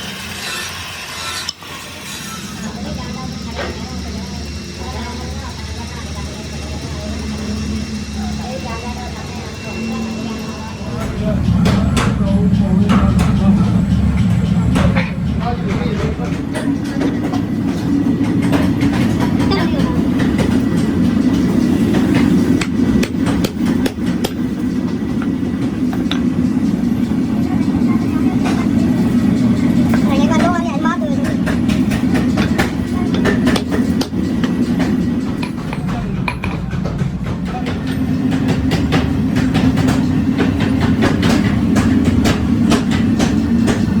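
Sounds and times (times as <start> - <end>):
workshop machinery droning: 0.0 - 44.0.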